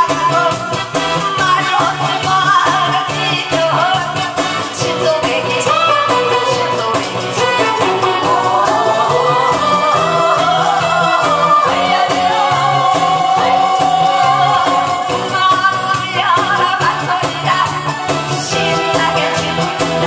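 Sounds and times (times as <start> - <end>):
instrumental music with bass beat: 0.0 - 20.0
woman singing into microphone: 0.0 - 20.0.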